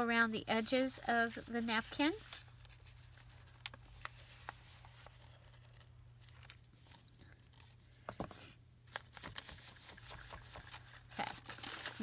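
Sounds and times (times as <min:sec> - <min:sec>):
paper napkin rustling: 0:00.0 - 0:07.8, 0:08.9 - 0:12.0.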